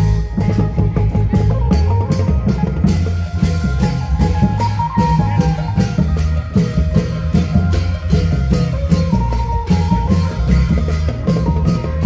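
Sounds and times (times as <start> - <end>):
drum band playing dance music: 0.0 - 12.0
melody line: 0.0 - 12.0.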